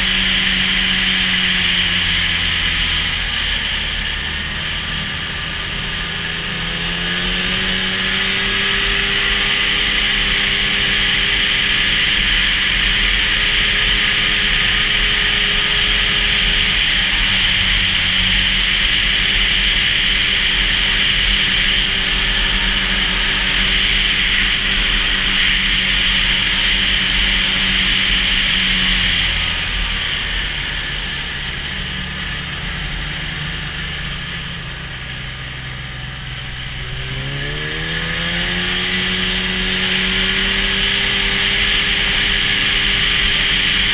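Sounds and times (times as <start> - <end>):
snowmobile engine running: 0.0 - 43.9.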